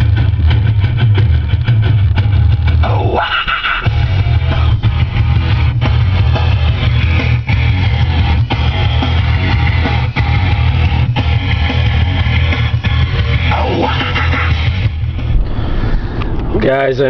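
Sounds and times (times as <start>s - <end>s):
loud rock music: 0.0s - 16.2s.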